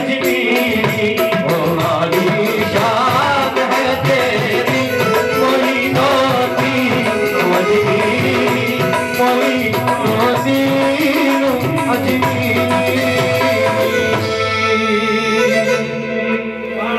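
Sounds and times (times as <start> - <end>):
men singing devotional song: 0.0 - 16.9
tabla: 0.0 - 16.9
electronic keyboard: 0.3 - 16.9.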